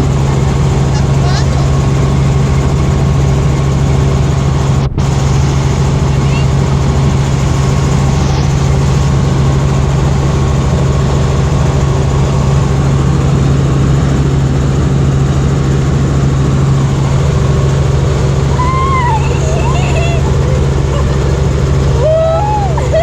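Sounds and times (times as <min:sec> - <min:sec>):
constant low hum: 0:00.0 - 0:23.0
helicopter engine and rotor drone: 0:00.0 - 0:23.0.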